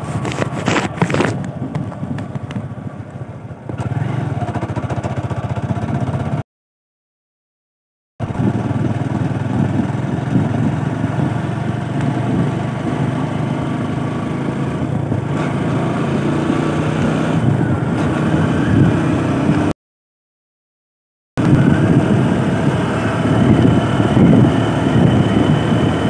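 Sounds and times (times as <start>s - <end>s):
motorcycle engine running: 0.0s - 6.4s, 8.2s - 19.7s, 21.4s - 26.0s
wind and road noise: 0.0s - 6.4s, 8.2s - 19.7s, 21.4s - 26.0s.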